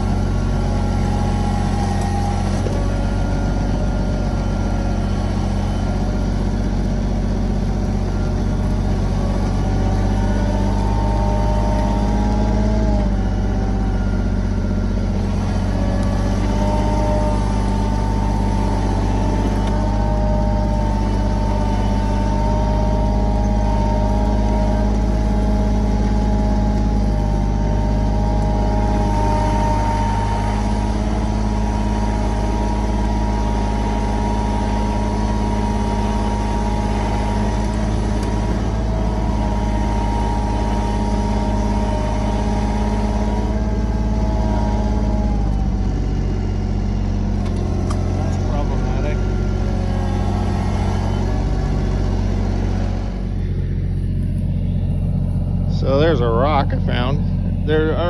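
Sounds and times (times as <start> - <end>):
high whine: 0.0 - 58.0
tractor diesel engine under load: 0.0 - 58.0.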